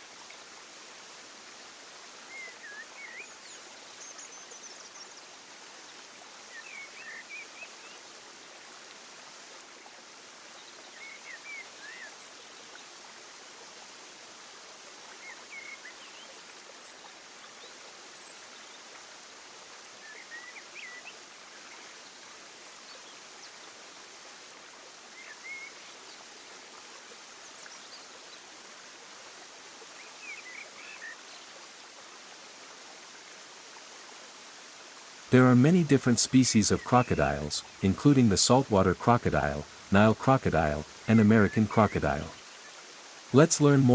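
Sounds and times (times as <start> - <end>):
flowing water: 0.0 - 43.9.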